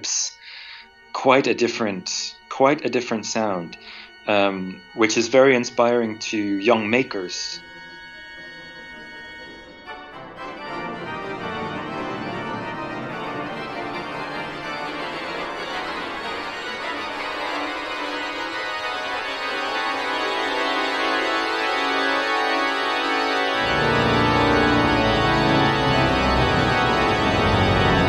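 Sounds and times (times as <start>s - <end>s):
pipe organ chords: 0.0s - 28.0s.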